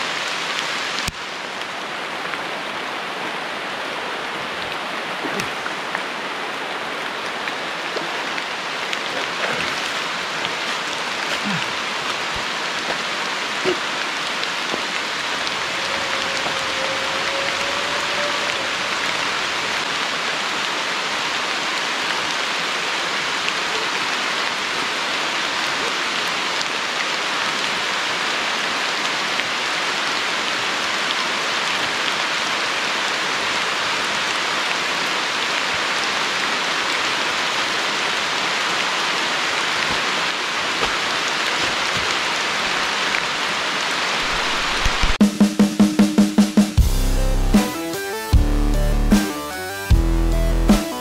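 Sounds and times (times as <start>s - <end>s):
heavy rain on leaves: 0.0s - 45.3s.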